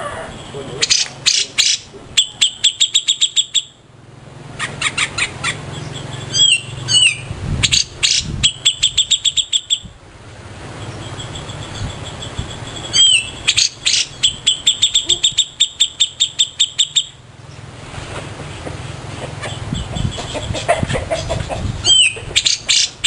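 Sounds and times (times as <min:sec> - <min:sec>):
songbird singing: 0:00.0 - 0:23.0
steady low hum: 0:00.0 - 0:23.0.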